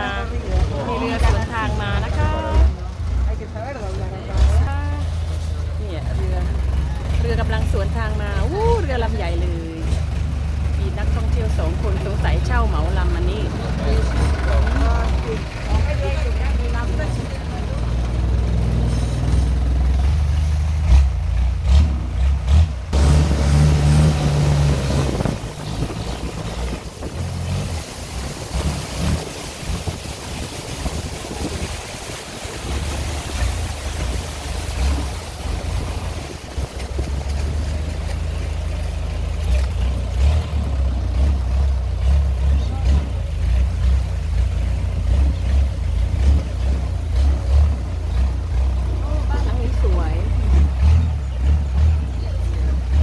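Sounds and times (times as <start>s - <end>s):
boat engine running: 0.0s - 53.0s
water rushing along hull: 0.0s - 53.0s.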